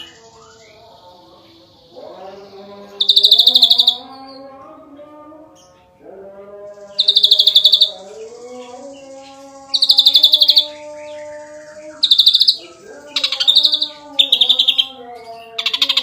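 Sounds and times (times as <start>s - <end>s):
bird singing rapid trills: 0.0s - 4.5s, 6.5s - 16.0s.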